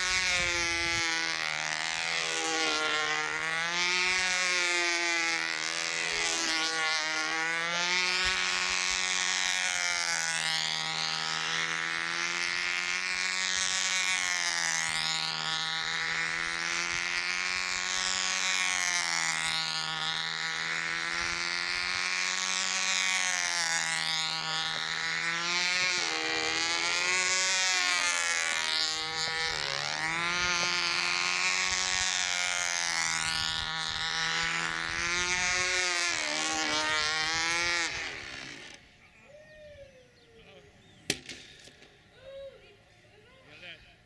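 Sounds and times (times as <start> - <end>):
model airplane engine running: 0.0 - 44.0.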